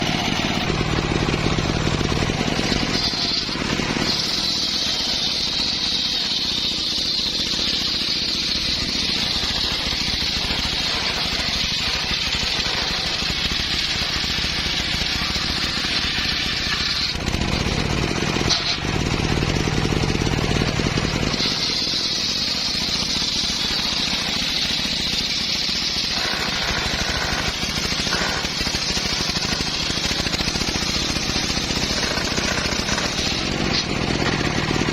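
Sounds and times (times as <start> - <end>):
circular saw blade whine: 0.0 - 34.9
engine running: 0.0 - 34.9.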